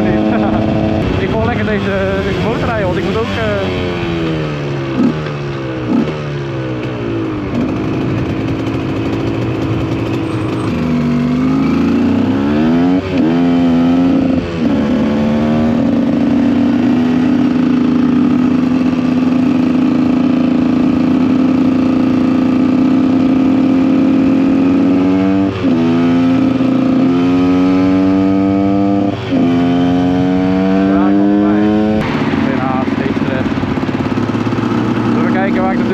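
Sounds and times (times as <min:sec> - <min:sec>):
two-stroke motorcycle engine revving: 0:00.0 - 0:35.9.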